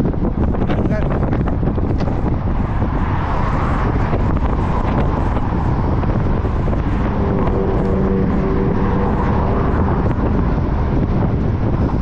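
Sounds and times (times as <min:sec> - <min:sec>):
car engine hum: 0:00.0 - 0:12.0
cars passing: 0:00.0 - 0:12.0
wind buffeting microphone: 0:00.0 - 0:12.0.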